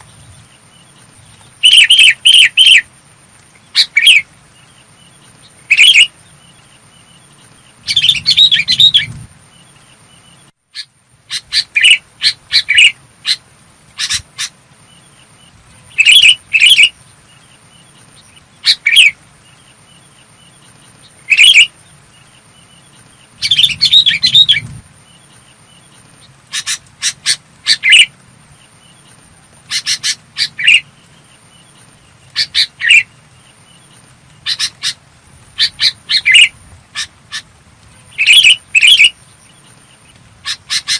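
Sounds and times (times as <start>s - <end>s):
bulbul calling: 0.0s - 2.9s, 3.5s - 40.9s.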